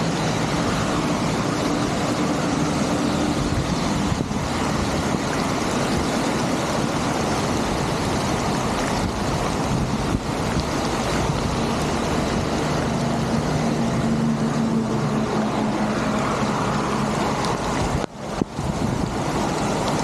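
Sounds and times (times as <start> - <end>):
floodwater rushing through culvert: 0.0 - 20.0.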